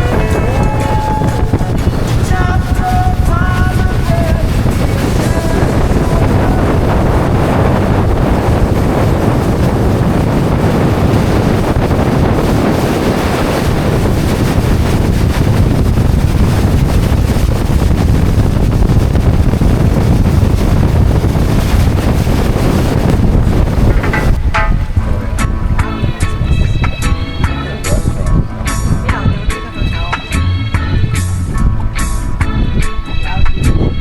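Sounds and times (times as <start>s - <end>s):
rushing water: 0.0s - 32.9s
wind buffeting microphone: 0.0s - 34.0s.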